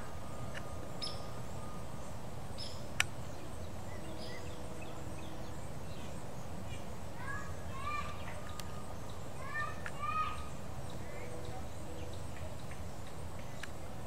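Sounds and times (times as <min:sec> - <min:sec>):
bird chirps: 0:00.0 - 0:13.8.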